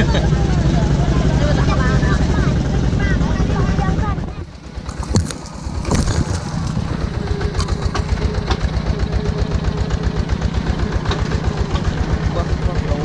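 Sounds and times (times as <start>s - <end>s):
tractor engine chugging: 0.0s - 13.0s.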